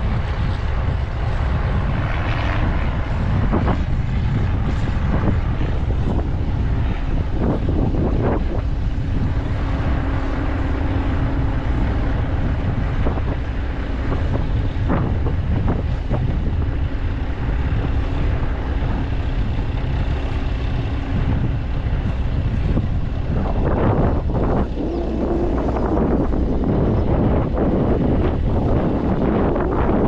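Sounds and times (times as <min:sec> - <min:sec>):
diesel machinery rumbling: 0:00.0 - 0:30.0
wind buffeting microphone: 0:00.0 - 0:30.0.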